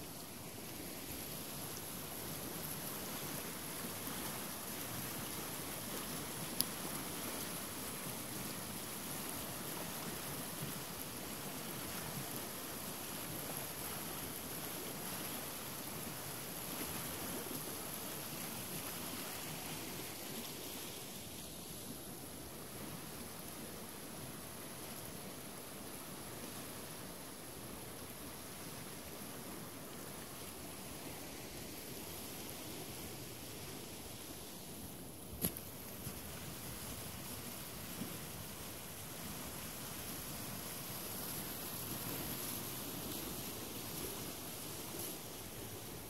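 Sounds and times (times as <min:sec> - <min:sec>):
river rushing over stones: 0:00.0 - 0:46.0.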